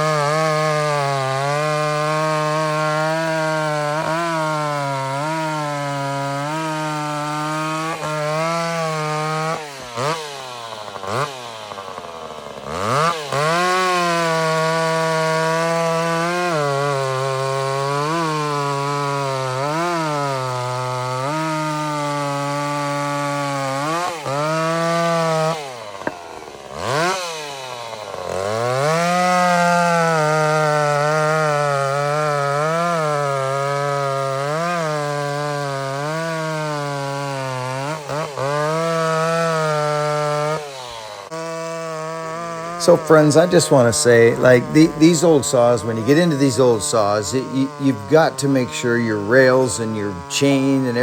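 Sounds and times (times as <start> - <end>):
chainsaw cutting wood: 0.0 - 51.0.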